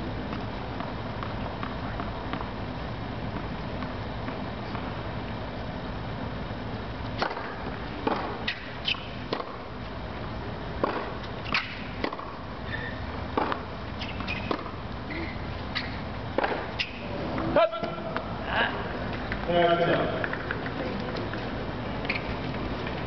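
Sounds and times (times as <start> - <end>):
tennis balls hit and bouncing: 0.2 - 5.3, 7.0 - 23.0.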